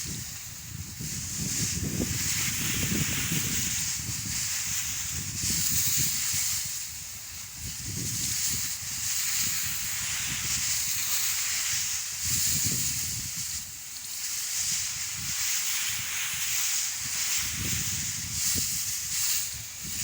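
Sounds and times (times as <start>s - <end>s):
sprayer nozzles hissing: 0.0s - 20.0s.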